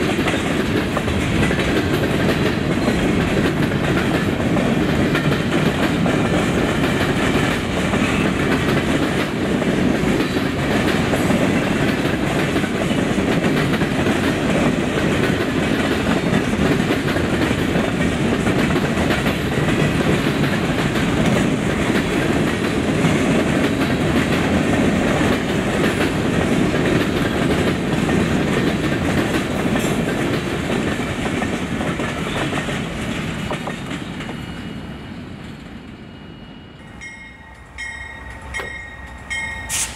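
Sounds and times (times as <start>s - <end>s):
train cars rolling on rails: 0.0s - 39.9s.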